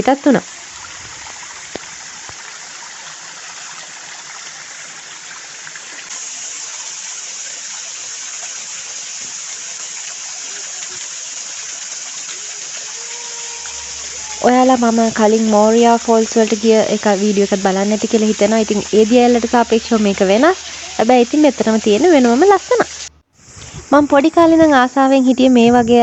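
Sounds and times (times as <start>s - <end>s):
water rushing over rocks: 0.1s - 23.2s.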